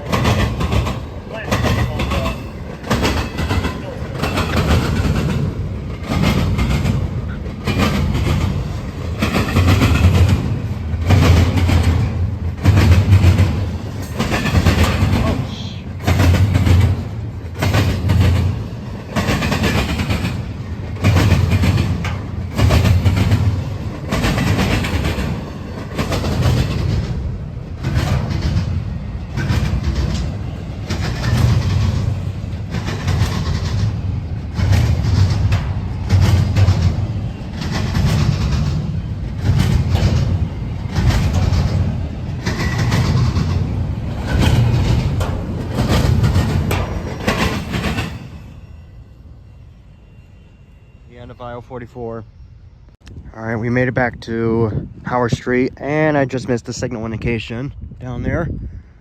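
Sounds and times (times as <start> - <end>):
train wheels clacking over rail joints: 0.0 - 48.7.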